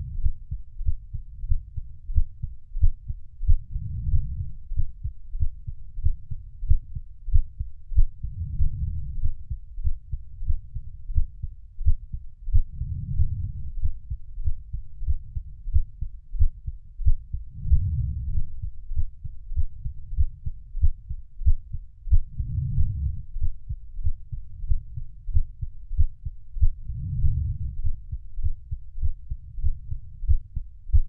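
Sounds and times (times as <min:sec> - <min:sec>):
muffled heartbeat thumping: 0:00.0 - 0:31.0
soft low swell: 0:00.0 - 0:31.0.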